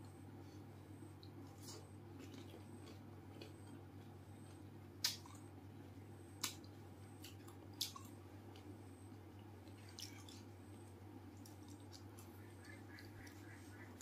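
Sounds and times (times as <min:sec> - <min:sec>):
low steady hum: 0:00.0 - 0:14.0
quiet chewing: 0:00.5 - 0:05.5, 0:06.4 - 0:14.0.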